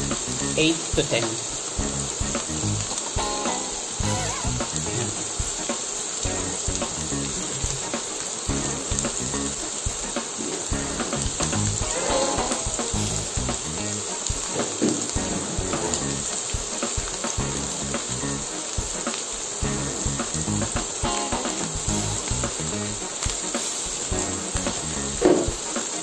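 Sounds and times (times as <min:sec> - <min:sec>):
steak sizzling in butter: 0:00.0 - 0:26.0.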